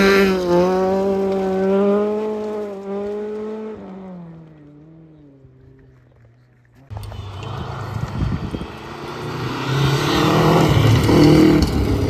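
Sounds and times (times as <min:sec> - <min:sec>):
rally car engine: 0:00.0 - 0:12.0.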